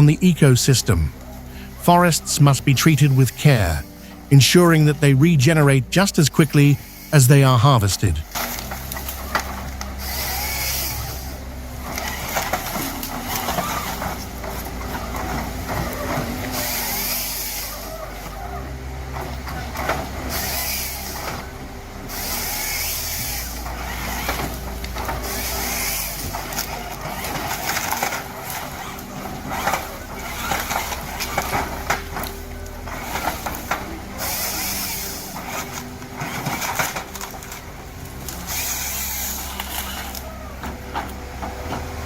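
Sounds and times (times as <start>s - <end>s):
heavy machinery engine running: 0.0s - 42.0s.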